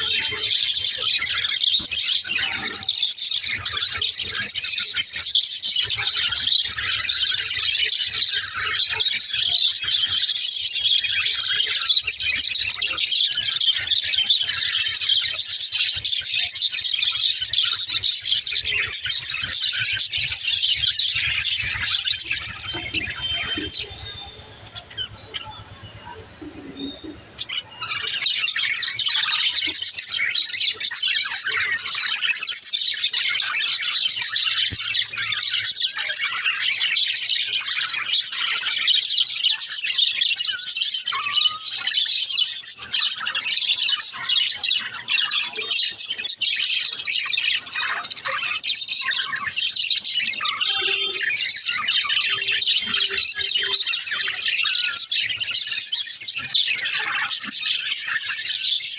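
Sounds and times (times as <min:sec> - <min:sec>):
budgerigars chirping: 0:00.0 - 0:58.9.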